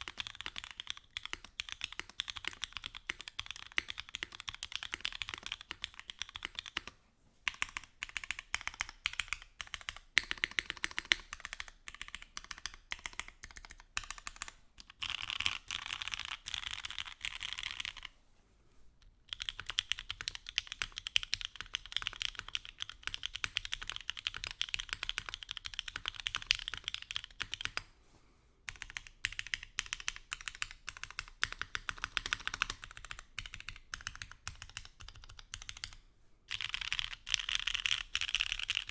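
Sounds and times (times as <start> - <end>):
mechanical keyboard typing: 0.0 - 6.9, 7.5 - 18.1, 19.3 - 27.8, 28.7 - 38.9.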